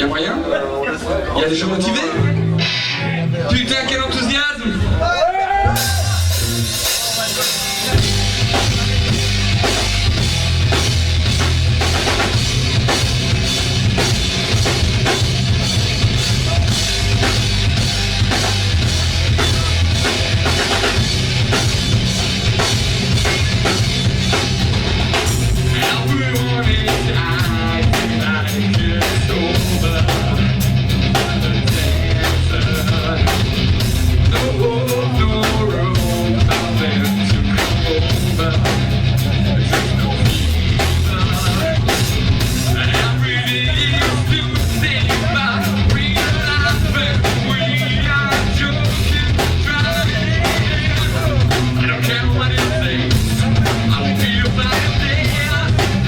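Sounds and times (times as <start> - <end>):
live rock band playing: 0.0 - 56.0
drum kit beat: 5.3 - 56.0.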